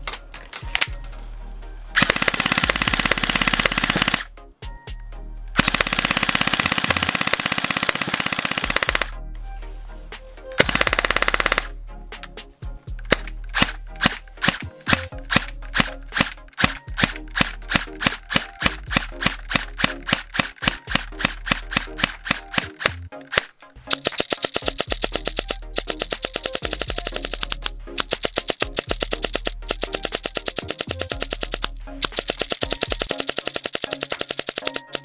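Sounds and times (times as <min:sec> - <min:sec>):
airsoft pistol firing: 0:02.0 - 0:04.3, 0:05.6 - 0:09.1, 0:10.6 - 0:11.7, 0:13.1 - 0:35.0.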